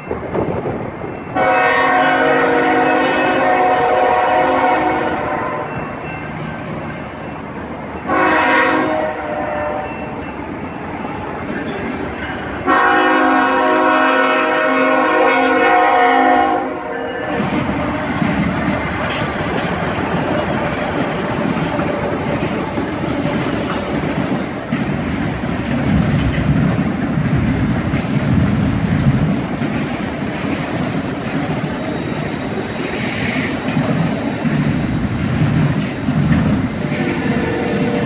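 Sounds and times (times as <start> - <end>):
diesel locomotives passing: 0.0 - 38.0
train wheels rumbling and clacking: 0.0 - 38.0.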